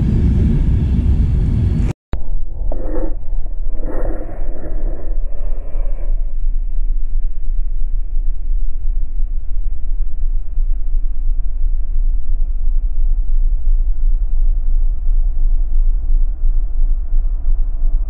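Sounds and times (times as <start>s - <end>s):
loud low rumble: 0.0s - 18.0s.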